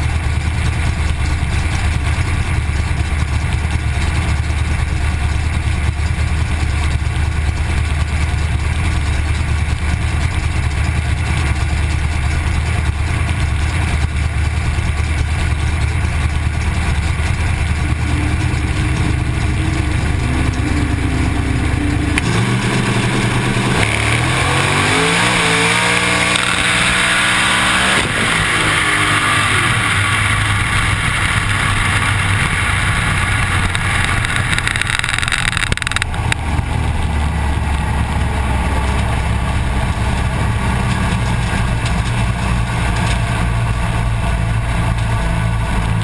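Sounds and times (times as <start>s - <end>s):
car engine drone from inside cabin: 0.0s - 46.0s.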